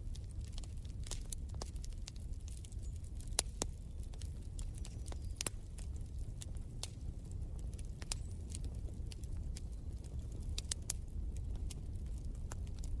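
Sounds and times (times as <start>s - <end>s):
low rumble of flames: 0.0s - 13.0s
wood fire crackling: 0.0s - 13.0s.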